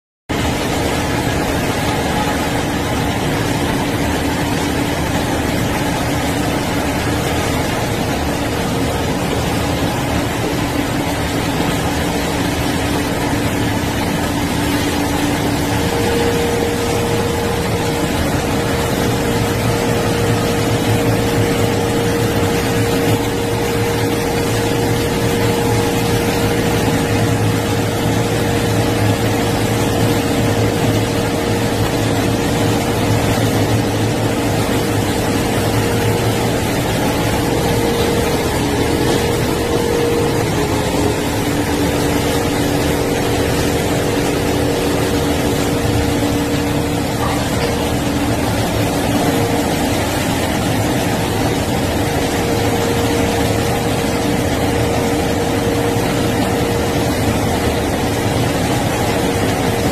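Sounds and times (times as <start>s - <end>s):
deeper hum: 0.3s - 59.9s
wire saw machine drone: 0.3s - 59.9s
saw whine: 1.0s - 59.8s.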